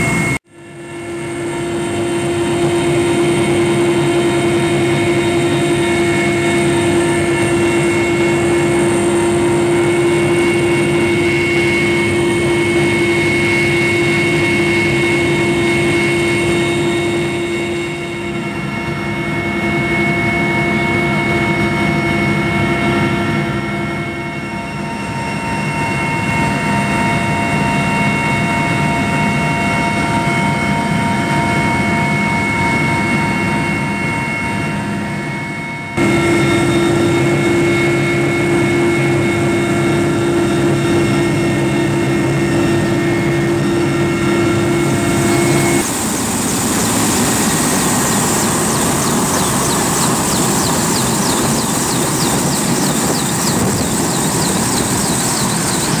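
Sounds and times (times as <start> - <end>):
helicopter cabin drone: 0.0 - 56.0
high turbine whine: 0.0 - 56.0.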